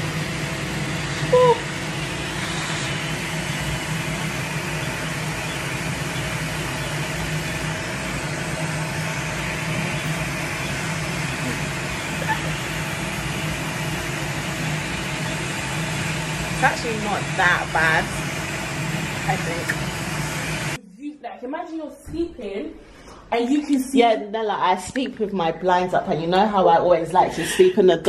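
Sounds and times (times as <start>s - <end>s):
machinery fan hum: 0.0s - 28.0s.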